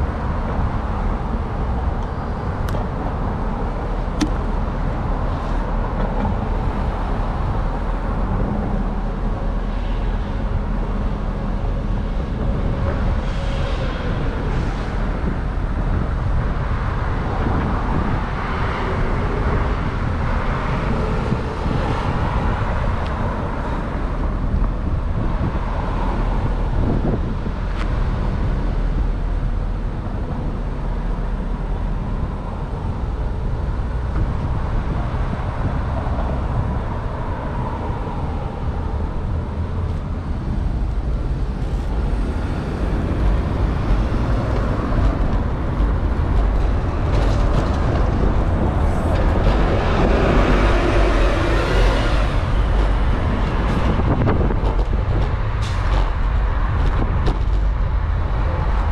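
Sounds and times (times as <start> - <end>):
cars passing: 0.0 - 58.9
road noise hiss and rumble: 0.0 - 58.9.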